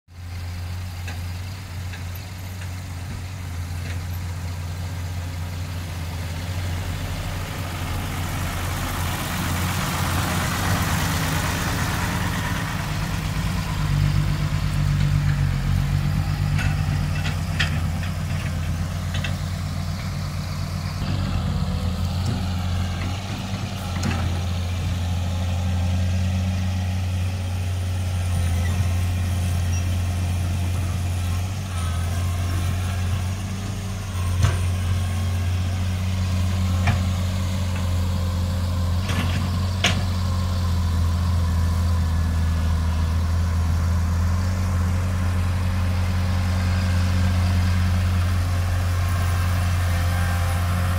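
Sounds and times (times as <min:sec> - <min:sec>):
diesel engine running: 0:00.1 - 0:50.9.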